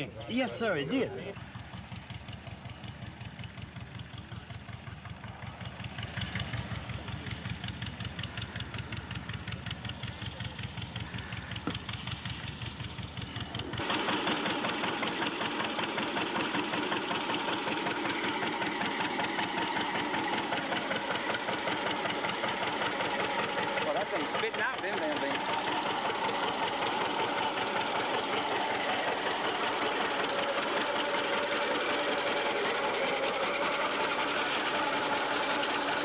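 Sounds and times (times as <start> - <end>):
tractor engine rhythmic beat: 0.0 - 36.0.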